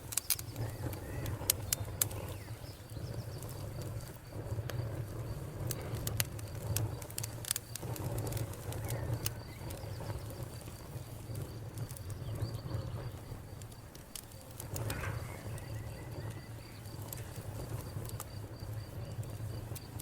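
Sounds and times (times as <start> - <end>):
insect chirping: 0.0 - 20.0
wood fire crackling and popping: 0.0 - 20.0.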